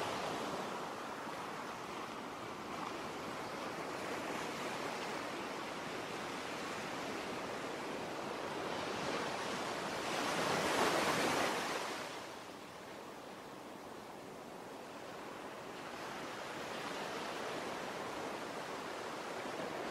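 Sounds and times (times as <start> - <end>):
ocean waves washing on shore: 0.0 - 19.9.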